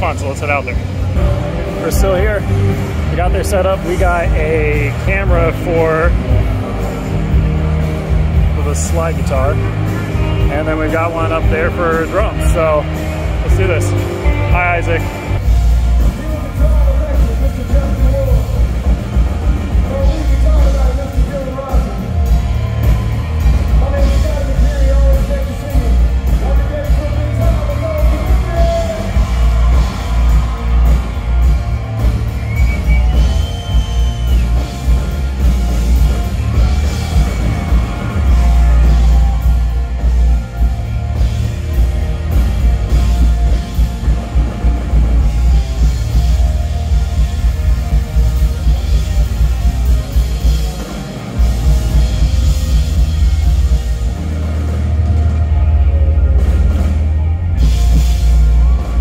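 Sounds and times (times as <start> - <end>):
heavy bass: 0.0 - 59.0
live country band playing: 0.0 - 59.0.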